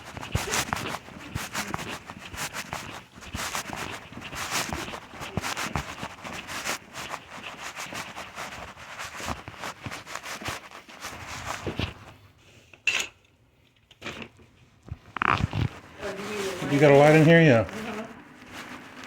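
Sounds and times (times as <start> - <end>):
rustling and scuffing: 0.0 - 12.3, 15.0 - 19.0.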